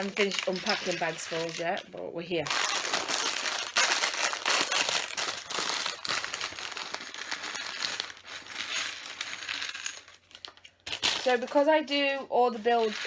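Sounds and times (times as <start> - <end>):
plastic bag crinkling: 0.0 - 13.0
small plastic bricks rattling: 0.0 - 13.0.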